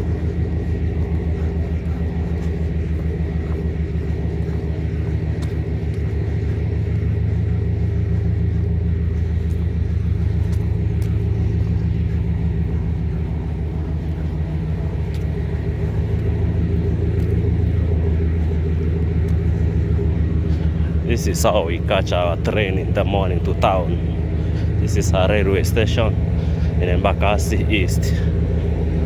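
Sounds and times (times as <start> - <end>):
diesel locomotive engine idling: 0.0 - 29.0.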